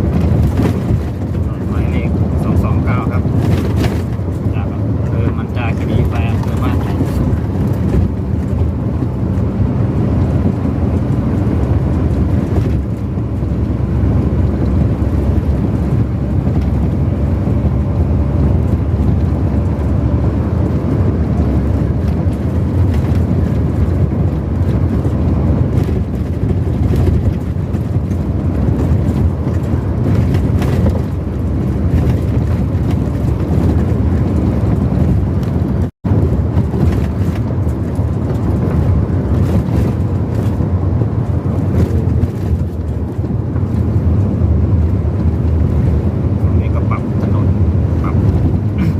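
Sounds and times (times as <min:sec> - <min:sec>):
engine and tyre rumble: 0:00.0 - 0:48.9
wind on microphone: 0:00.0 - 0:48.9.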